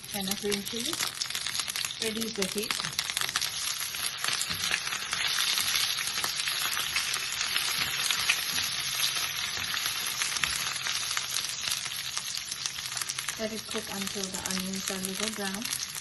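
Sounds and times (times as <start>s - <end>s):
ghee sizzling and crackling in a pan: 0.0s - 16.0s.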